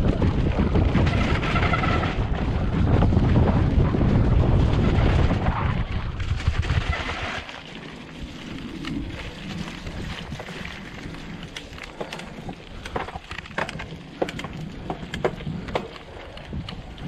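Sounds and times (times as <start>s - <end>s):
wind buffeting microphone: 0.0s - 7.5s, 8.1s - 17.0s
bike tyres and frame rattling: 0.0s - 17.0s.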